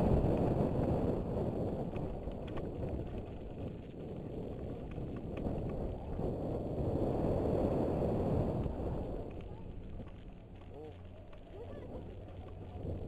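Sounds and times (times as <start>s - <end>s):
bike clicks: 0.0s - 6.4s, 8.6s - 13.0s
low rumble: 0.0s - 13.0s
wind rushing over microphone: 0.0s - 13.0s.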